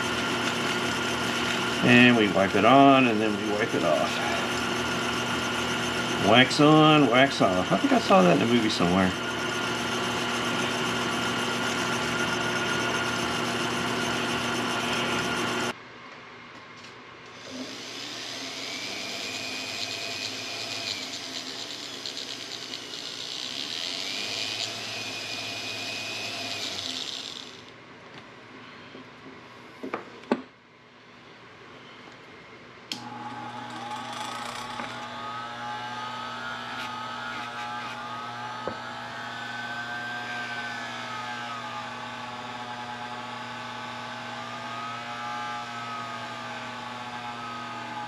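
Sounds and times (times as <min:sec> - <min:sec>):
bench buffer wheel running: 0:00.0 - 0:15.8, 0:17.4 - 0:27.7, 0:33.0 - 0:48.0
small lathe humming: 0:00.0 - 0:15.8, 0:17.3 - 0:27.7, 0:32.9 - 0:48.0.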